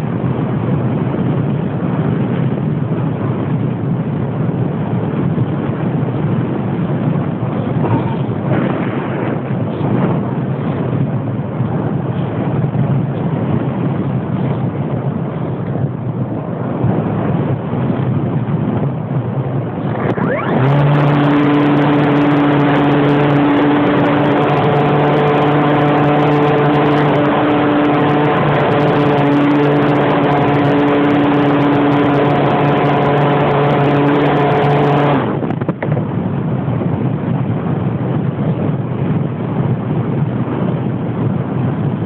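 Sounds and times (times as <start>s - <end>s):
propeller aircraft engine droning: 0.0s - 42.0s
wind rush over microphone: 0.0s - 42.0s.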